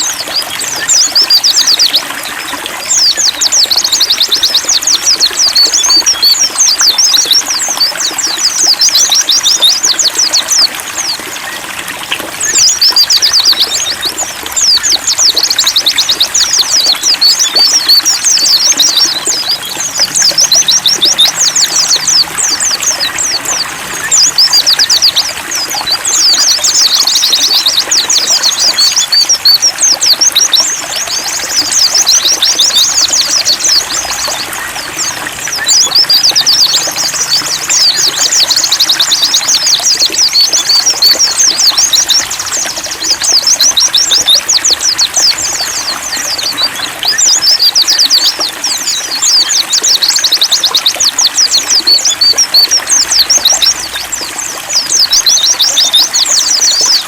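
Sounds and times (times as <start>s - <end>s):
birds singing fast high chatter: 0.0s - 57.0s
trickle of running water: 0.0s - 57.0s.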